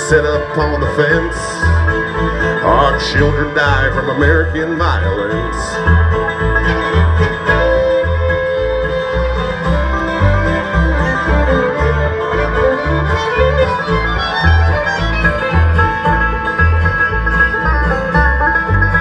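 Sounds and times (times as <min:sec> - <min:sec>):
bluegrass string band playing: 0:00.0 - 0:19.0.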